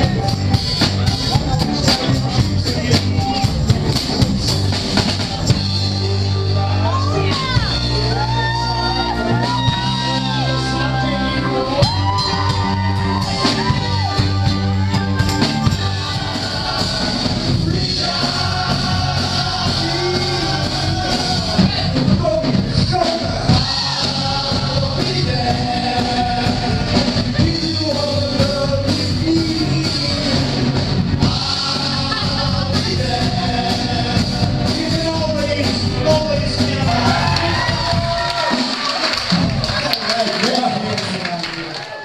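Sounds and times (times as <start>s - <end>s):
person singing: 0.0s - 38.6s
live rock band playing: 0.0s - 41.2s.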